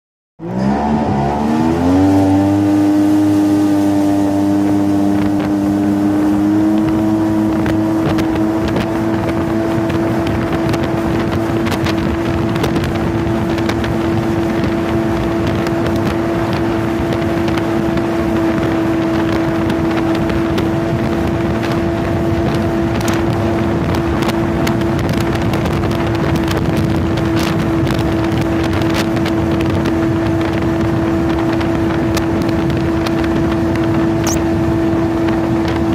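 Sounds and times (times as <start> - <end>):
personal watercraft engine running: 0.4 - 35.9
wind on microphone: 0.9 - 35.9.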